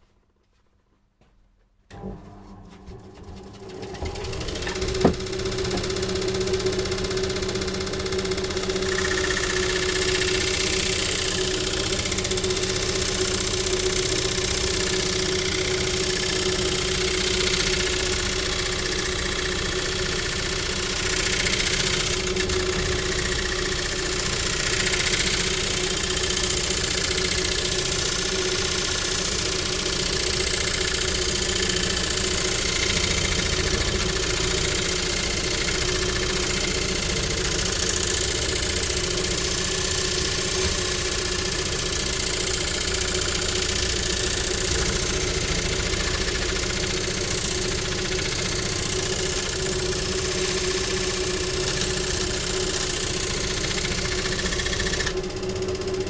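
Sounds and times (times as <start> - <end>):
machine humming: 1.9 - 55.1.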